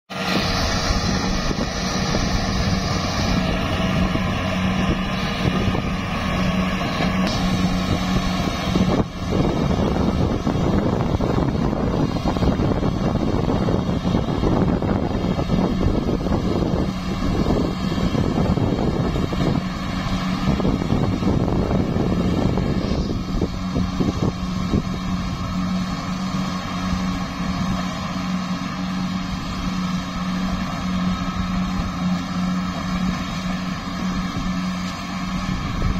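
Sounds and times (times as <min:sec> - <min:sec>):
harvester engine humming: 0:00.1 - 0:35.9
threshing machinery whirring: 0:00.1 - 0:35.9.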